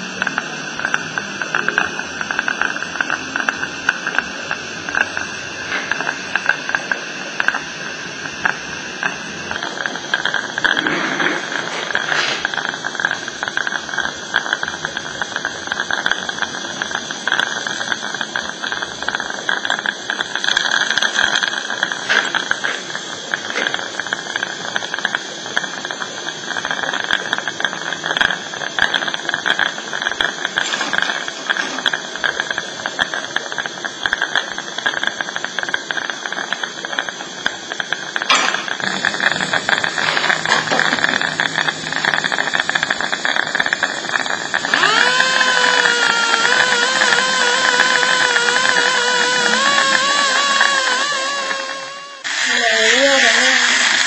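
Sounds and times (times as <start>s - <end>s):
dental suction hissing: 0.0s - 54.0s
rattles and gurgles: 8.3s - 52.2s.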